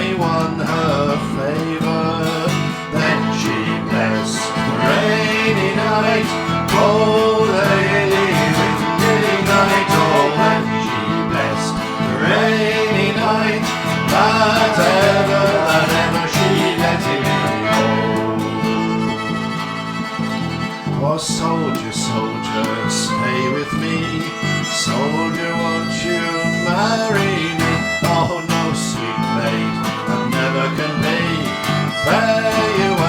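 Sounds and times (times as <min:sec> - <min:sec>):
fiddle sliding melody: 0:00.0 - 0:33.0
guitar accompaniment: 0:00.0 - 0:33.0.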